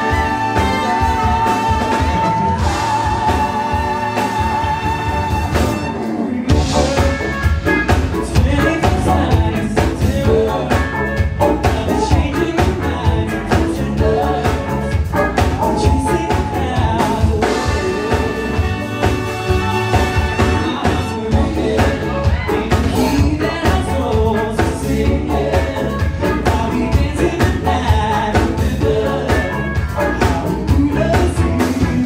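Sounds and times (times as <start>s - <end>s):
bass: 0.0s - 32.0s
drums: 0.0s - 32.0s
live band playing: 0.0s - 32.0s
person singing: 0.0s - 32.0s.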